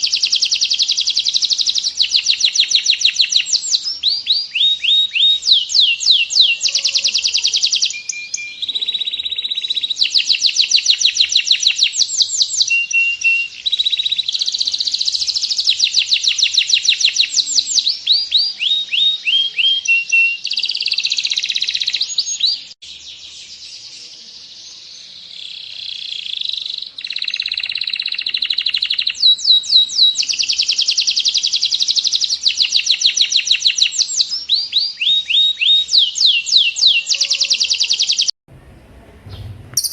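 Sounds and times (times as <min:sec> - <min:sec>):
canary trilling song: 0:00.0 - 0:38.4, 0:39.4 - 0:39.9.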